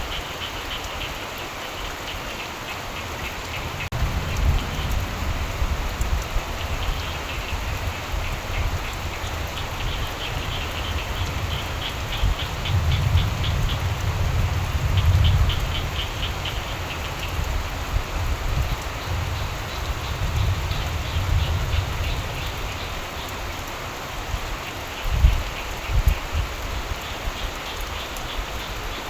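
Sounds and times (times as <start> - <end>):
frogs croaking: 0.0 - 29.0
steady rainfall: 0.0 - 29.0.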